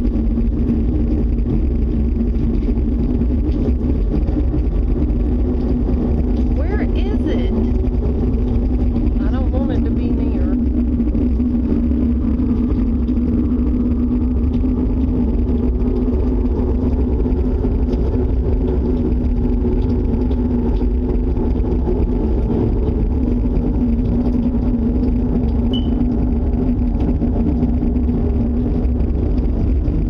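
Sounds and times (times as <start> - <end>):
droning hum: 0.0 - 30.0
loud steady low roar: 0.0 - 30.0.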